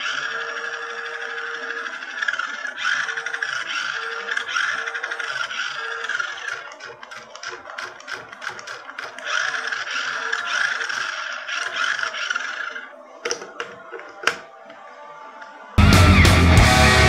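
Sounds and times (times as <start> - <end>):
rattling clicks: 0.0 - 14.5
toy car motor whirring: 0.0 - 15.8.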